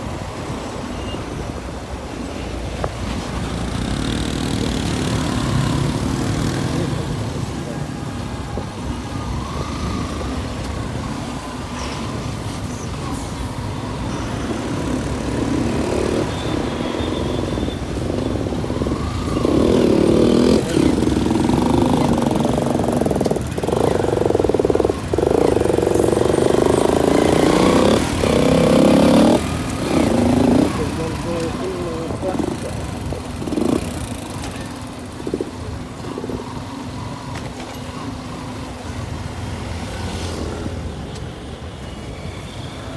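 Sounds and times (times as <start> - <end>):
road noise: 0.0 - 42.9
motorcycle engine: 3.0 - 41.9.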